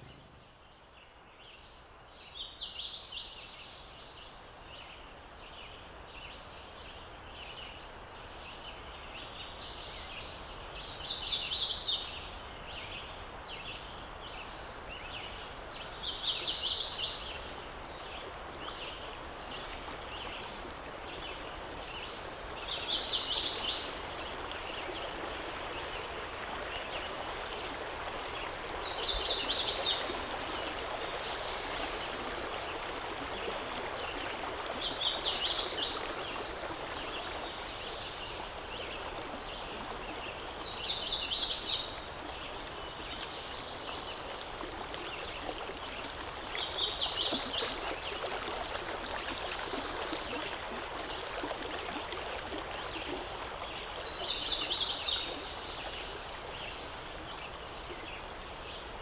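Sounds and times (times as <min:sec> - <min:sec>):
creek flowing: 0:00.0 - 0:59.0.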